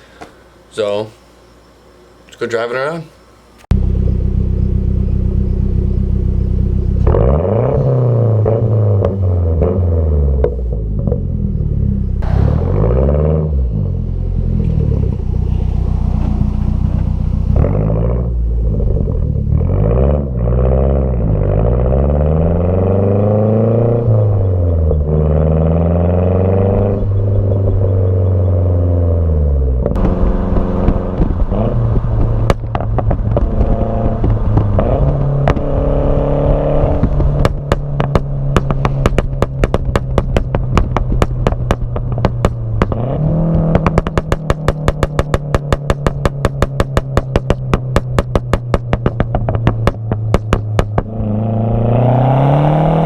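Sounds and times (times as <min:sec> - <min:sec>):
car engine revving: 0:03.5 - 0:53.0
sharp exhaust pops: 0:03.6 - 0:28.6, 0:29.8 - 0:53.0.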